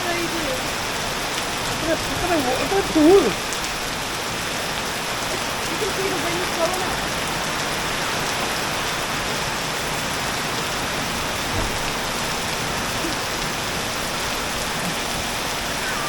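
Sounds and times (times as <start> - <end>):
heavy rain pouring onto pool: 0.0 - 16.0.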